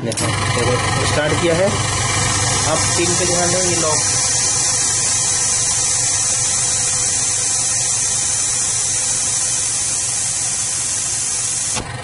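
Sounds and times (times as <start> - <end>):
machine motor hum: 0.0 - 12.0
high hiss of air: 2.1 - 11.8.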